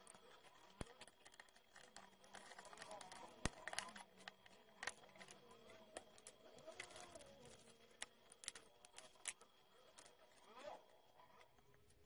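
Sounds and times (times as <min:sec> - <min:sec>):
metal pick clicking and scraping: 0:00.0 - 0:10.8.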